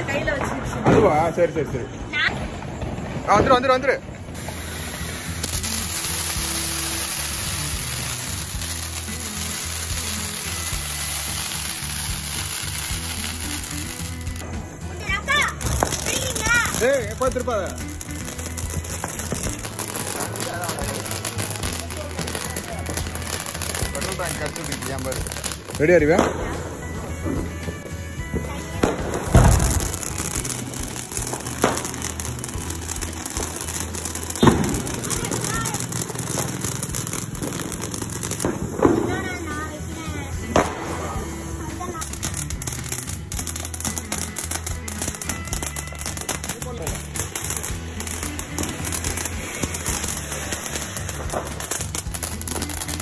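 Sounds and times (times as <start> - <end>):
firework fountain hissing: 0.0 - 53.0
music: 0.0 - 53.0.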